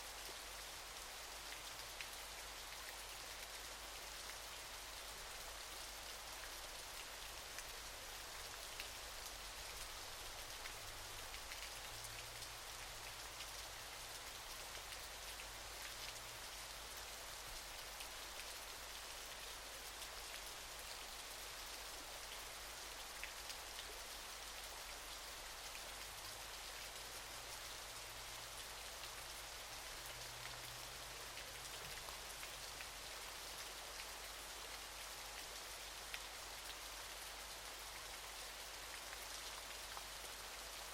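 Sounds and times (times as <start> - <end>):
falling water hiss and patter: 0.0 - 40.9.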